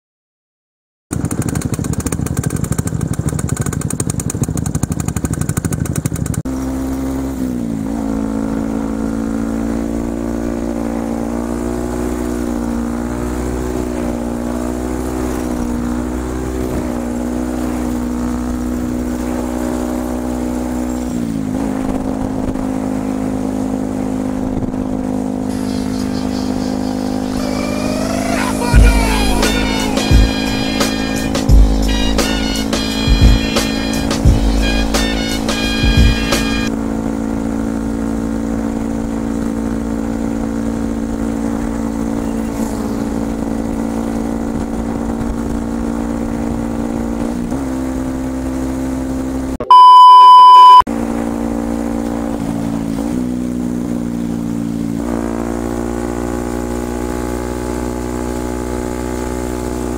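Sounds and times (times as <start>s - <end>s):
motorcycle engine while riding: 1.1s - 59.9s.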